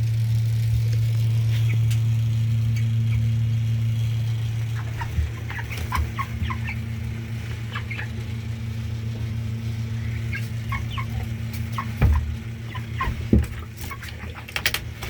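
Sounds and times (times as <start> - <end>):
steady low hum: 0.0 - 15.0
chickens clucking and peeping: 1.3 - 15.0.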